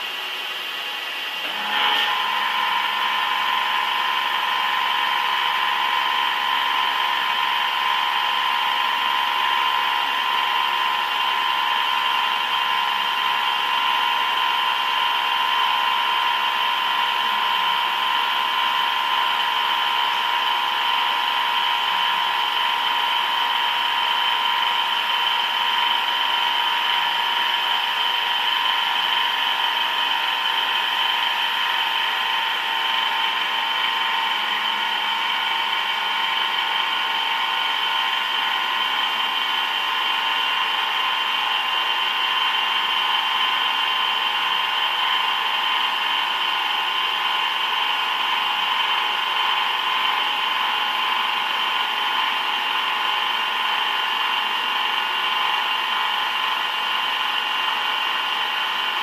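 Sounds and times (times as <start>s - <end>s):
metal-cutting machine whine: 0.0s - 59.0s.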